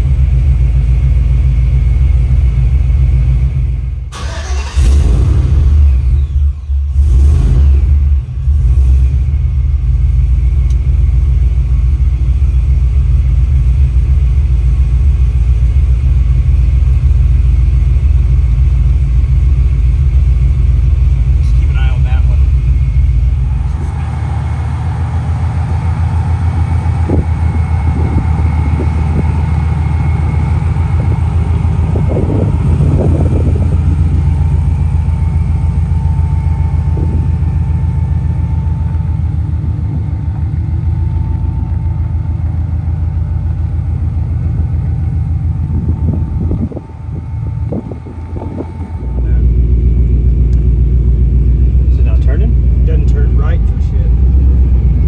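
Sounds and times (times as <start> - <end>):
pickup engine idling: 0.0 - 55.0.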